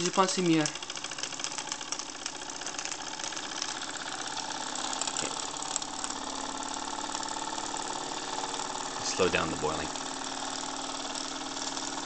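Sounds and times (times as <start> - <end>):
toy steam engine chuffing: 0.0 - 12.0.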